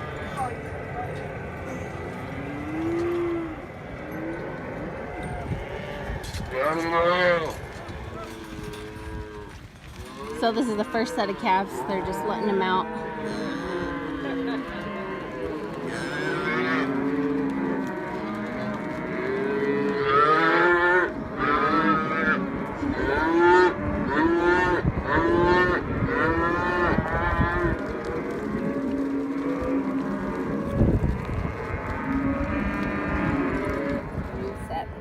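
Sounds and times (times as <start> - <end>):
cattle bawling: 0.0 - 30.8.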